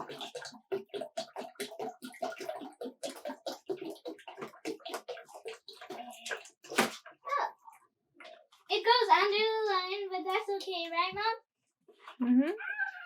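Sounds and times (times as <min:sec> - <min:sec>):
water pouring and splashing: 0:00.0 - 0:11.3.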